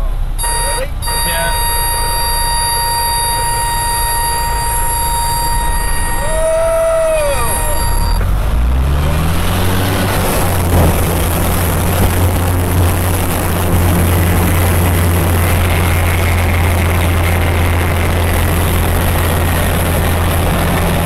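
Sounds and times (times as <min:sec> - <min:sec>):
plane engine and propeller droning: 0:00.0 - 0:21.0.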